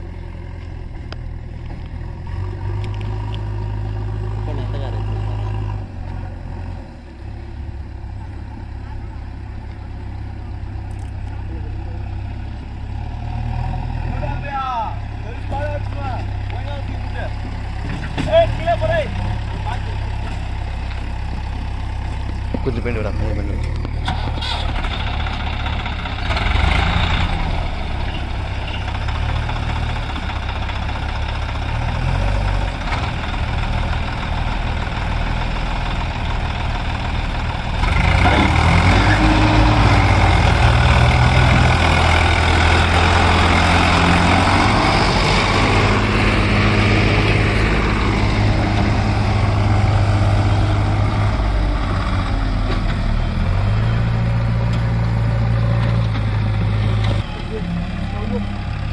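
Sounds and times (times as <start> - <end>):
diesel engines running hard: 0.0 - 58.9.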